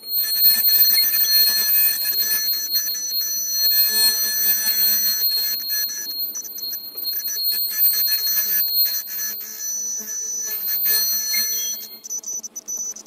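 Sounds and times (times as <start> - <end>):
ultrasonic cutting machine whine: 0.0 - 13.0.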